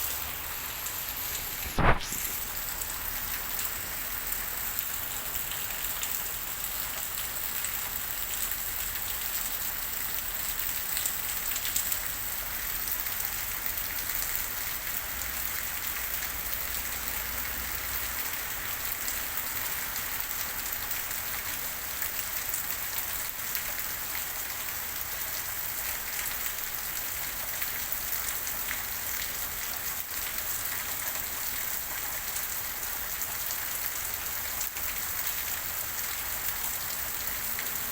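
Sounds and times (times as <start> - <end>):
rain pattering on a surface: 0.0 - 37.9.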